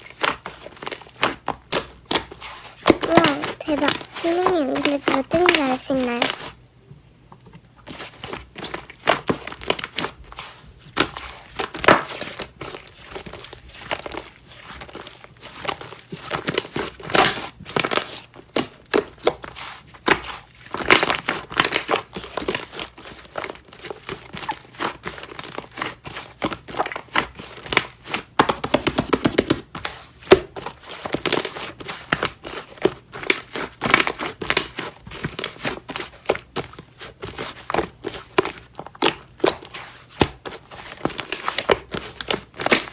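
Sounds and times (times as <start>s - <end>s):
slime crackling and squishing: 0.0s - 6.6s, 7.8s - 42.9s.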